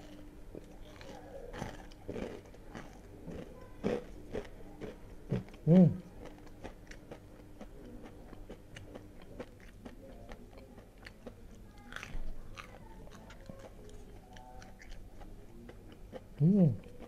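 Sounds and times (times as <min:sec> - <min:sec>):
person chewing crispy food: 0:00.0 - 0:17.0.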